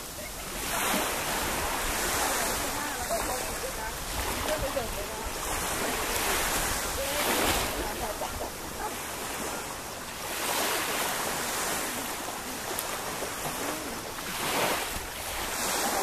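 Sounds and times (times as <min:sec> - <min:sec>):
sea waves washing onto beach: 0:00.0 - 0:16.0
wind rumbling on microphone: 0:00.0 - 0:16.0.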